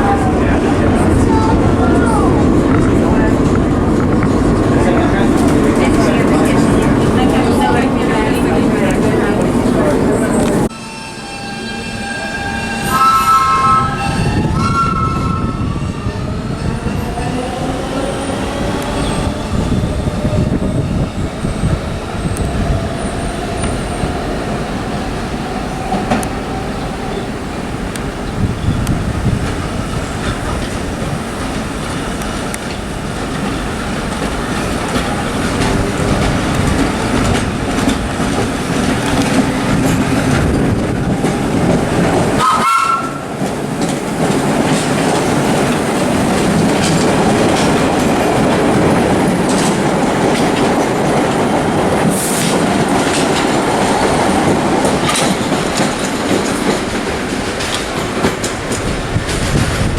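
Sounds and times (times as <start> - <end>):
train wheels clattering on track: 0.4 - 10.7, 12.8 - 59.9.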